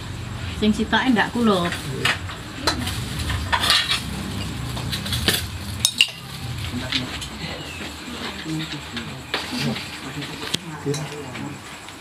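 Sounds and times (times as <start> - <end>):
plates and spoons clinking: 1.6 - 11.4.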